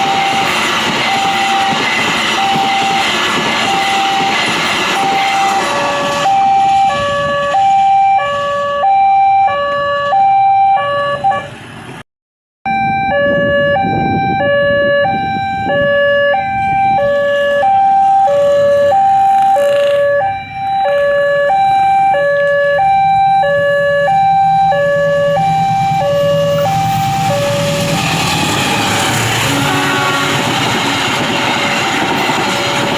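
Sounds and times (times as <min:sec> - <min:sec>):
level crossing two-tone alarm: 0:00.0 - 0:11.5, 0:12.7 - 0:29.1.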